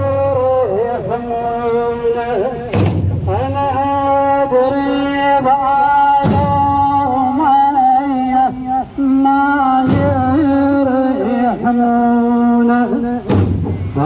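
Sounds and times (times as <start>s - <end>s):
voice chanting lament over loudspeakers: 0.0s - 14.0s.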